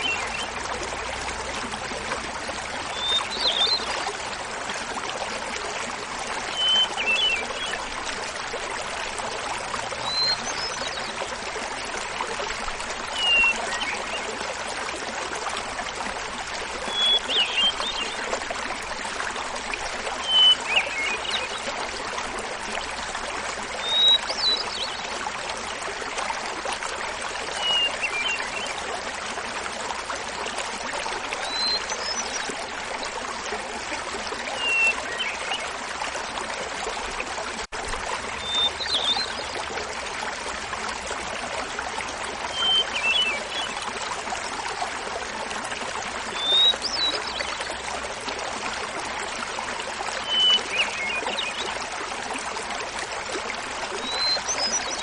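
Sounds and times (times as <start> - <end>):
small waterfall babbling: 0.0 - 55.0.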